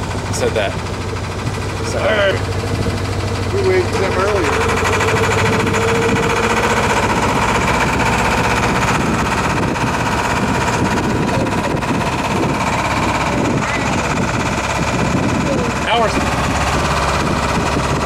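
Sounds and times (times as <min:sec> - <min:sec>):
boat engine chugging: 0:00.0 - 0:18.0.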